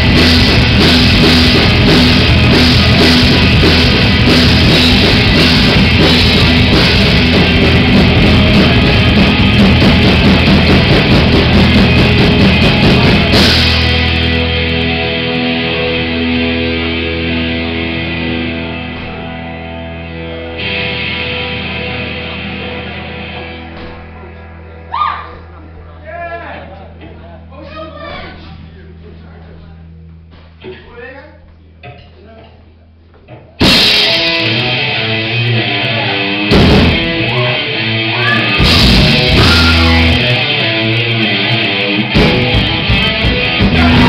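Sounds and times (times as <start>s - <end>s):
live rock band playing: 0.0s - 26.0s, 33.6s - 44.0s.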